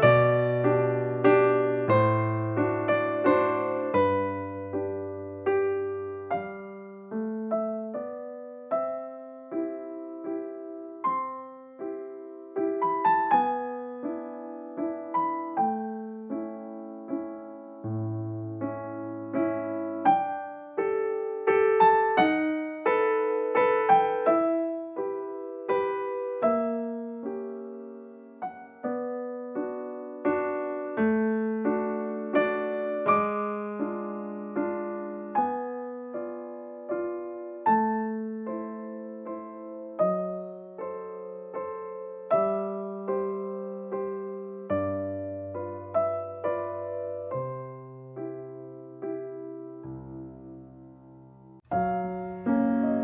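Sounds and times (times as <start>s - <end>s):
slow solo piano: 0.0s - 53.0s.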